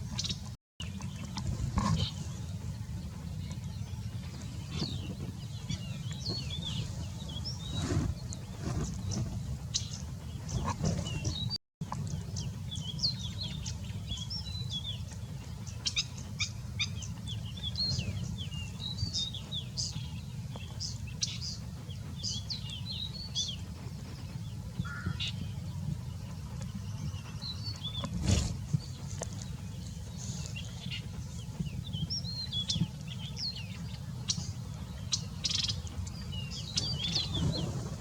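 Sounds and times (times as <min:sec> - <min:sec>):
small birds chirping: 0:00.0 - 0:38.0
steady low rumble: 0:00.0 - 0:38.0.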